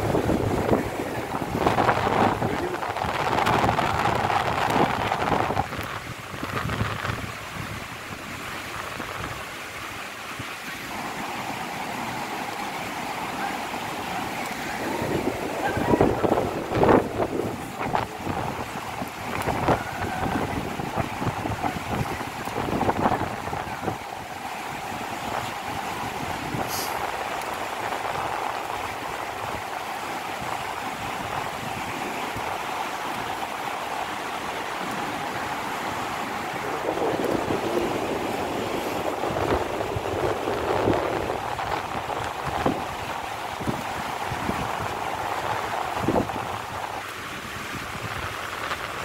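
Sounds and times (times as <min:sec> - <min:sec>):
wind buffeting microphone: 0:00.0 - 0:10.9, 0:11.5 - 0:49.0
river rushing: 0:00.0 - 0:49.0.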